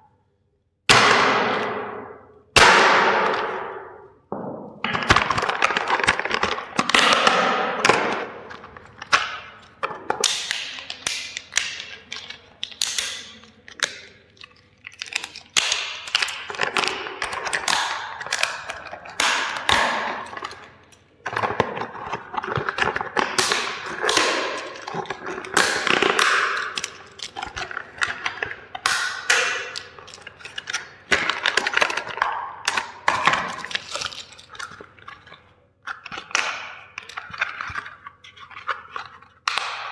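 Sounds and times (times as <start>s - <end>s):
toys cracking and snapping: 4.9s - 39.9s.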